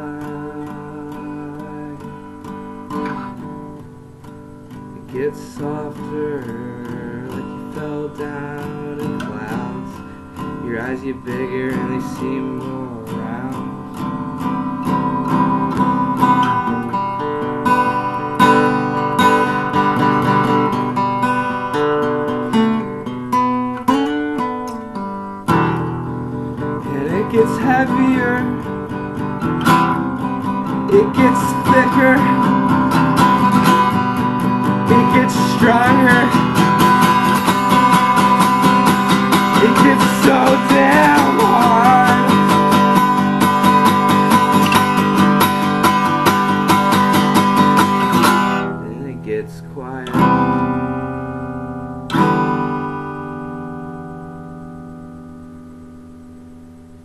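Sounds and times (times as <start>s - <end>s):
acoustic guitar strummed: 0.0s - 57.0s.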